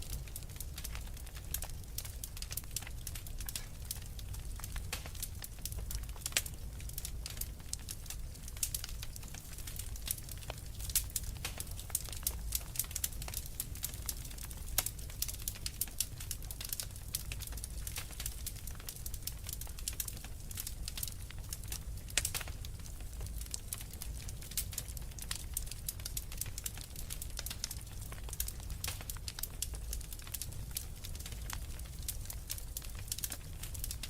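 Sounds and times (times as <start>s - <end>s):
low rumble of burning logs: 0.0s - 34.0s
wood fire crackling: 0.0s - 34.0s.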